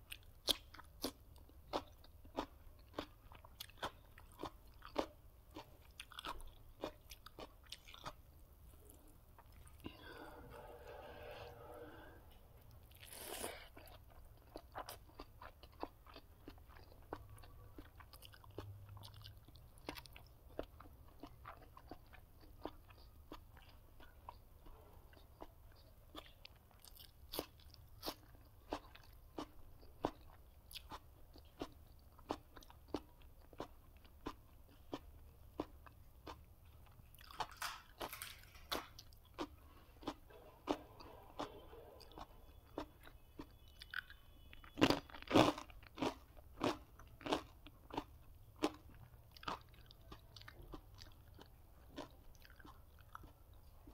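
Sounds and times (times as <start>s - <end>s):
person chewing crisp food: 0.0s - 53.9s.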